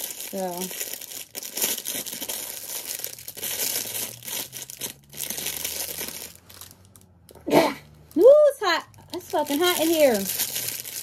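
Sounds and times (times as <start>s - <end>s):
plastic wrapping crinkling: 0.0s - 7.1s, 8.1s - 11.0s.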